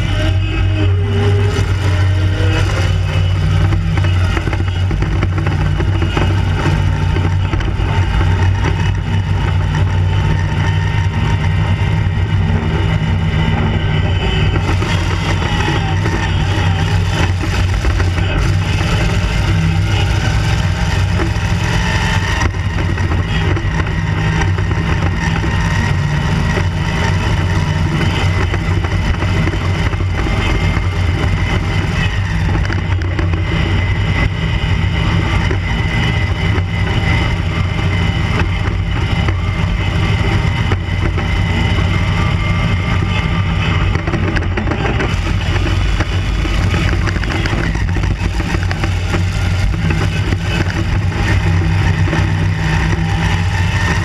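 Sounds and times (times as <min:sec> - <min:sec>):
buggy engine running: 0:00.0 - 0:54.0.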